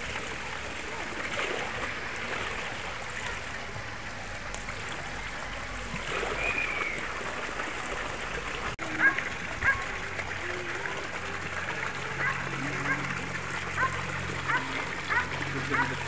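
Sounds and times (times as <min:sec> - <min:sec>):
rushing stream water: 0:00.0 - 0:16.0.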